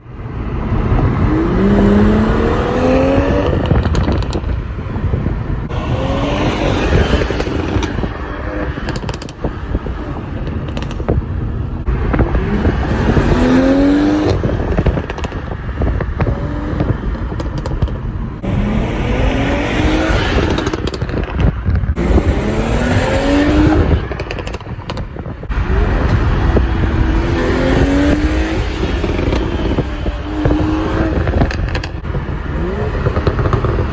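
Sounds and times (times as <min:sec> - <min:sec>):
exhaust crackling and popping: 0:00.0 - 0:33.9
car engine accelerating hard: 0:00.2 - 0:33.9.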